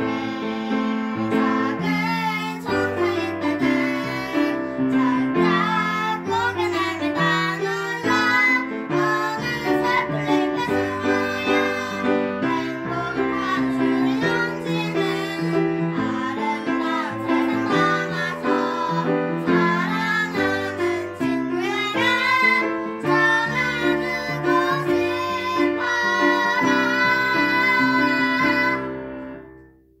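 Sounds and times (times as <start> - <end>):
children singing a duet: 0.0 - 29.2
piano accompaniment: 0.0 - 30.0.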